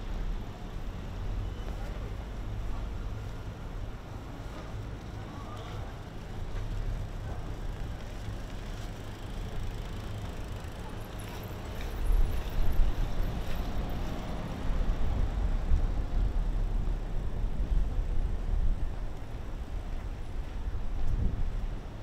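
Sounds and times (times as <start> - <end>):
low city rumble: 0.0 - 22.0.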